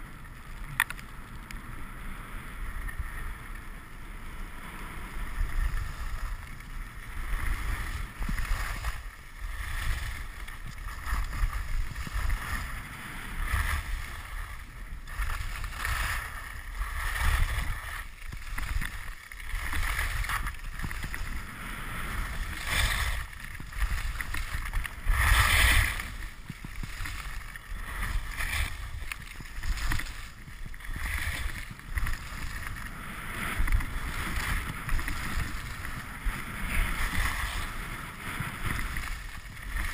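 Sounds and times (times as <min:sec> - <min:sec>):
skis scraping on snow: 0:00.0 - 0:39.9
wind on microphone: 0:05.0 - 0:39.9.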